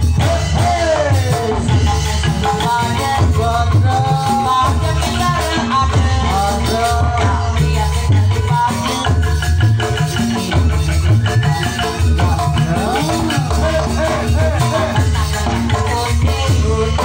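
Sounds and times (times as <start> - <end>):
gamelan music: 0.0 - 17.0
rhythmic percussion: 0.0 - 17.0.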